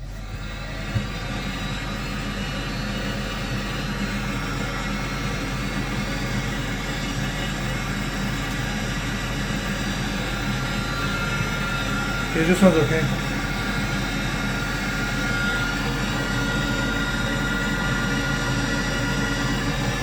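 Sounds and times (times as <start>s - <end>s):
boiler fan and burner rushing: 0.0s - 20.0s.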